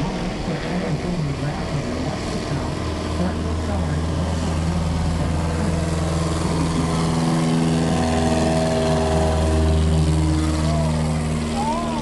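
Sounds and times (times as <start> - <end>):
low engine hum: 0.0 - 12.0
propeller plane engine passing: 0.0 - 12.0.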